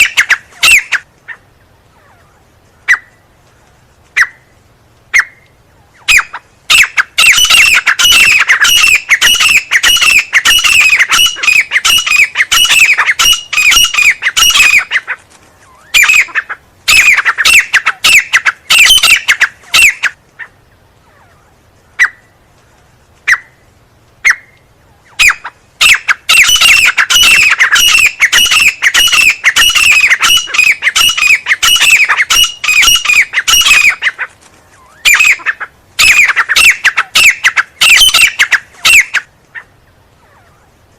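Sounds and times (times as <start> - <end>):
francolin calling: 0.0 - 3.4, 4.1 - 22.4, 23.2 - 40.8.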